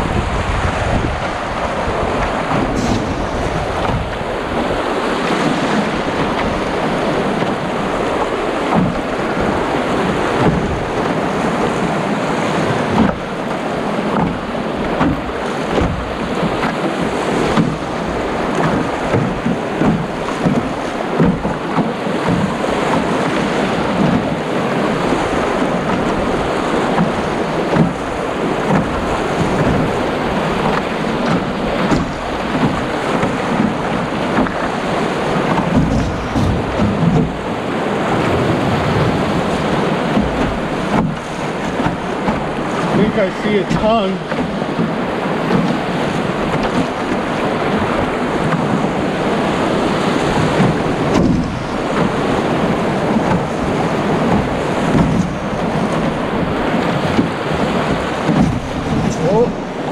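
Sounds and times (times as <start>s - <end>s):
whitewater rushing over rocks: 0.0s - 59.9s.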